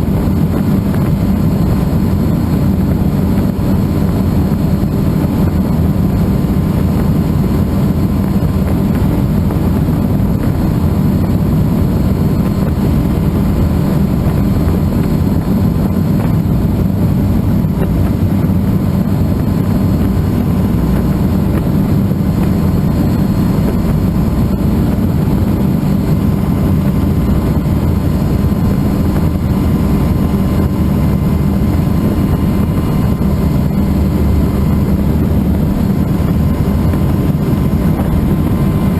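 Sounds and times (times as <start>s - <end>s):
faint steady whine: 0.0s - 38.9s
helicopter rotor and turbine engine: 0.0s - 38.9s.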